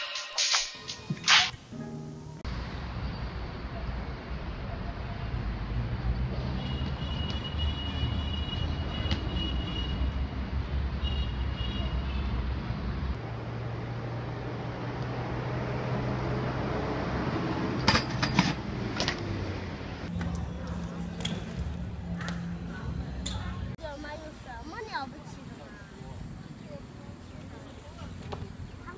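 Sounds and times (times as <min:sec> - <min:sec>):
street traffic rumble: 0:00.0 - 0:28.9.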